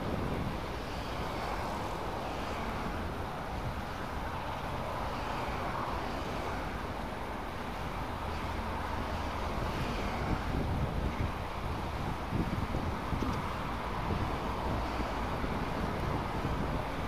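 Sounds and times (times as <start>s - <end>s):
stream flowing over rocks: 0.0s - 17.0s
wind rumble on microphone: 0.0s - 17.0s.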